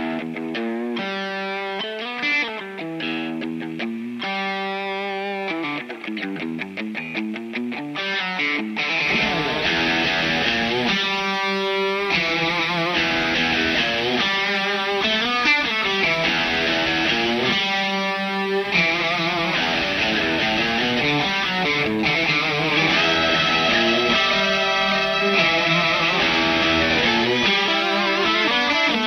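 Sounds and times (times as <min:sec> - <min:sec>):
electric guitar playing: 0:00.0 - 0:29.0.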